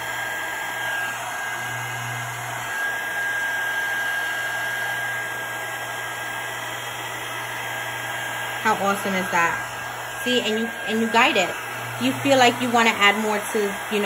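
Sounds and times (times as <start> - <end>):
heat tool blowing air: 0.0 - 14.0.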